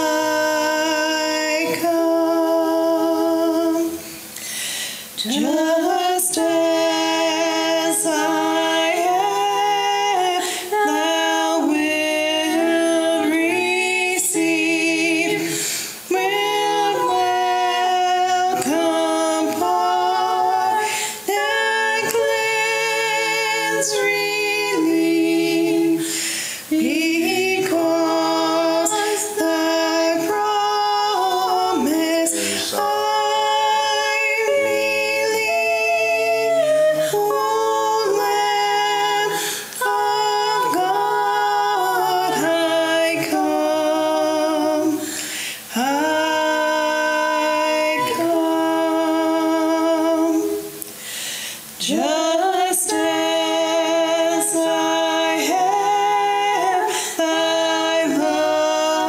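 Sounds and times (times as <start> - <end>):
people singing in harmony: 0.0 - 59.0.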